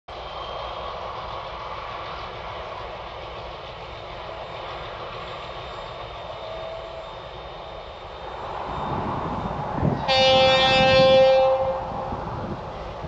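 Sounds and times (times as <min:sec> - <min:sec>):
diesel locomotives rumbling: 0:00.1 - 0:13.0.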